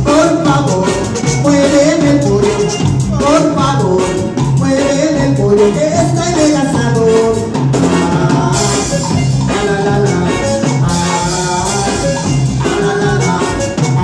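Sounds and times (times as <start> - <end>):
live band playing dance music: 0.0 - 14.0.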